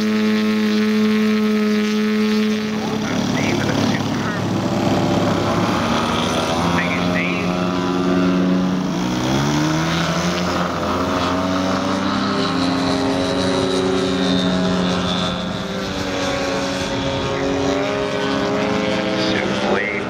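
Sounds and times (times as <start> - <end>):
model aeroplane motor and propeller: 0.0 - 20.0.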